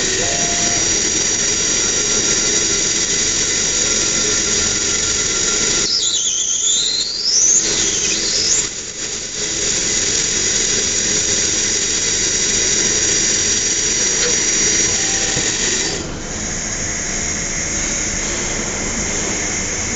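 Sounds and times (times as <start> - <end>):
drill tool squealing on metal: 0.0 - 16.1
spindle high-pitched whine: 0.0 - 19.9.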